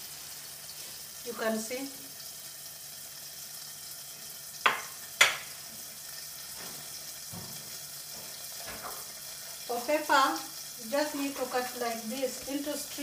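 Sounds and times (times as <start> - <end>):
oil sizzling in a pot: 0.0 - 13.0.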